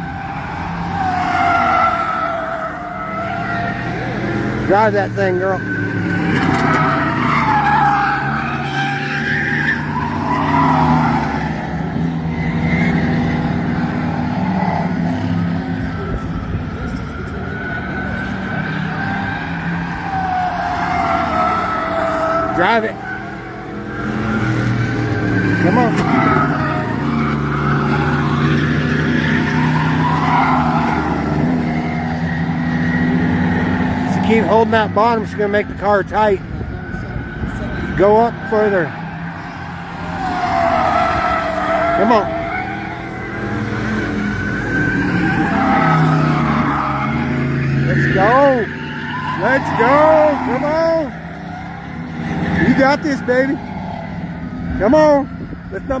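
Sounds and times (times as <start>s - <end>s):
tyres squealing: 0.0s - 15.4s, 17.1s - 36.2s, 37.9s - 54.0s
stock car engines racing: 0.0s - 56.0s.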